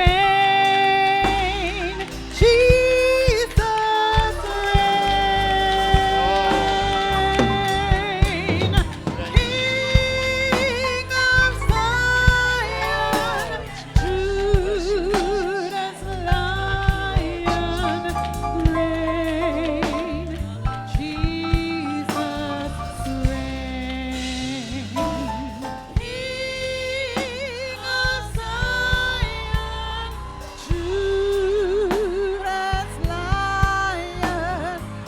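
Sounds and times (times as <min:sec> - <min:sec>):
band with bass and drums: 0:00.0 - 0:35.0
solo singer with wide vibrato: 0:00.0 - 0:35.0.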